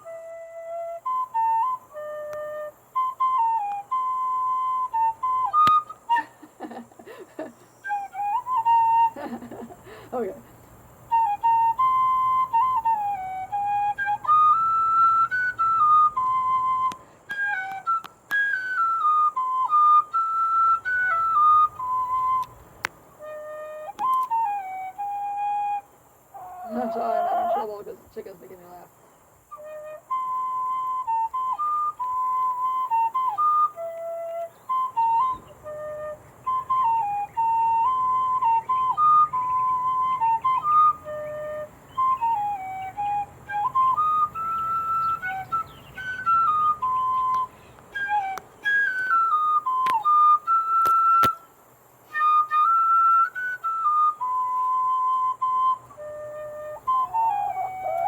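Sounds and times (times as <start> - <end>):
tin whistle melody: 0.0 - 10.3, 10.9 - 28.8, 29.4 - 58.0.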